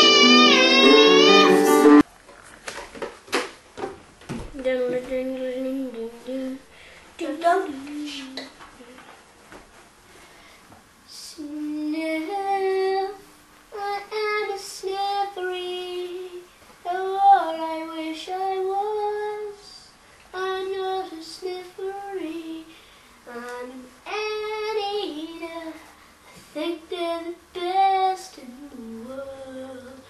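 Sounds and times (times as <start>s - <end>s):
child singing: 0.0s - 2.0s, 4.6s - 6.6s, 7.2s - 9.0s, 11.1s - 25.9s, 26.6s - 30.0s.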